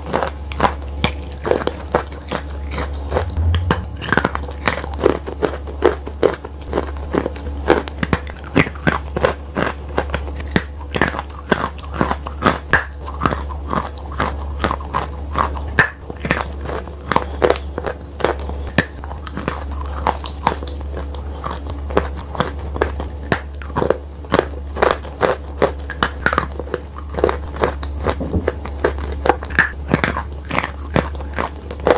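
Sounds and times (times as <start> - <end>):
chalk crunching and chewing: 0.0 - 31.9
steady low hum: 0.0 - 31.9.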